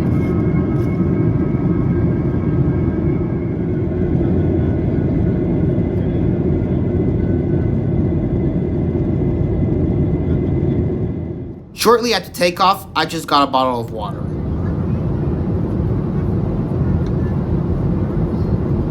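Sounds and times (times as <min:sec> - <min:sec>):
jet engine cabin roar: 0:00.0 - 0:18.9.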